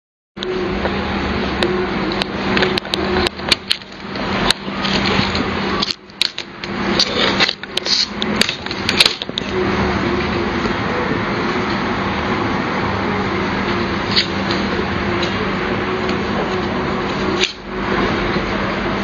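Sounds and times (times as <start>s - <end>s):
steady low hum: 0.4s - 19.0s.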